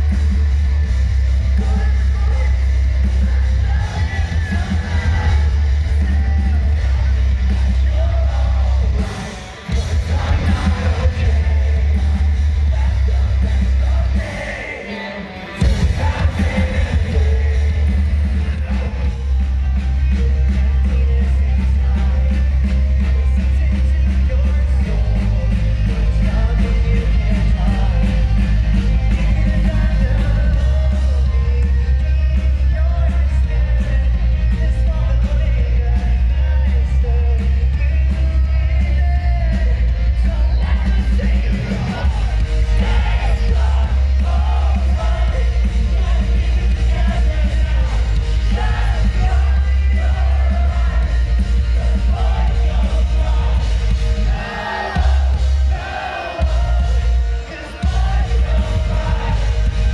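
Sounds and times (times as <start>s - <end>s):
rock band playing live: 0.0s - 59.9s
sung and shouted vocals: 1.3s - 59.9s.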